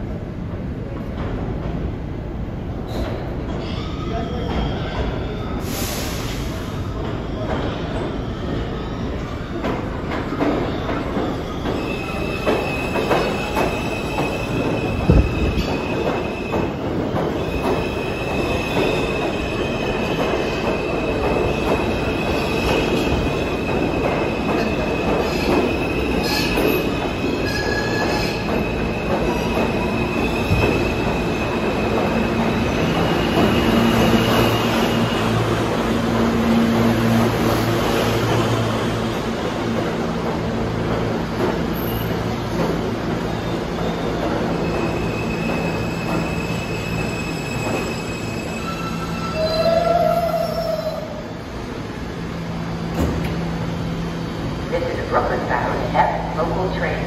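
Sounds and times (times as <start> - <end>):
train wheels squealing on rails: 2.8 - 39.9, 41.4 - 51.5
train rumble: 4.4 - 57.0.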